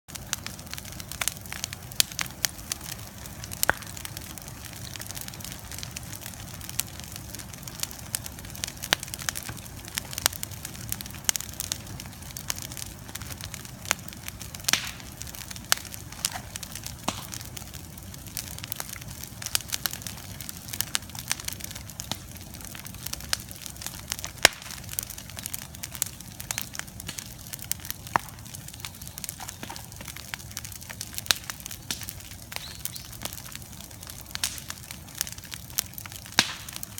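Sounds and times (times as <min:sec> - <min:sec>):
bonfire crackling and popping: 0:00.1 - 0:36.9.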